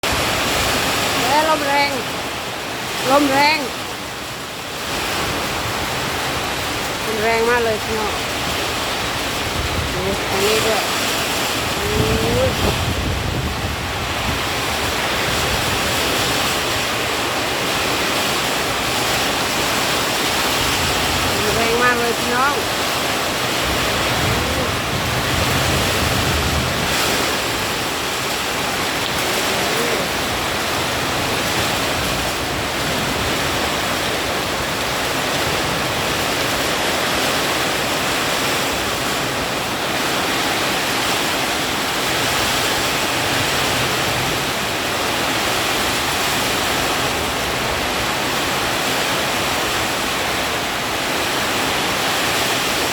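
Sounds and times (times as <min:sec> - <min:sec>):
heavy rain pouring: 0:00.0 - 0:52.9
strong wind: 0:00.0 - 0:52.9.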